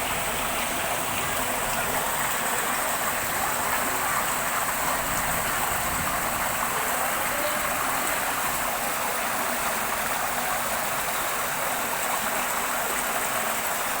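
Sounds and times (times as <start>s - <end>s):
rain falling: 0.0s - 14.0s
rainwater running: 0.0s - 14.0s.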